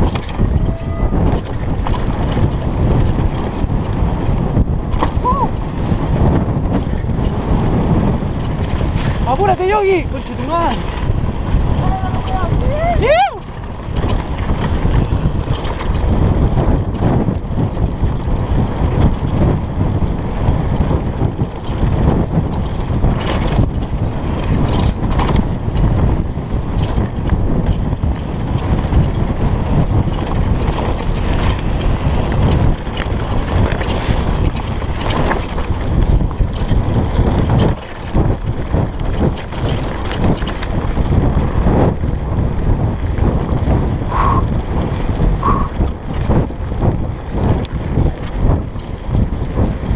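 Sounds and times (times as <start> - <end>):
bike chain and frame clatter: 0.0 - 49.9
wind buffeting microphone: 0.0 - 49.9.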